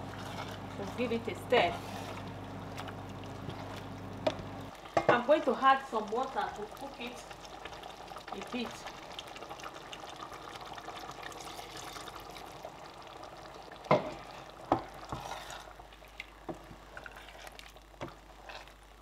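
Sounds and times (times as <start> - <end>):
spatula stirring thick soup: 0.0 - 12.4, 13.7 - 19.0
water pouring into pot: 2.8 - 18.7.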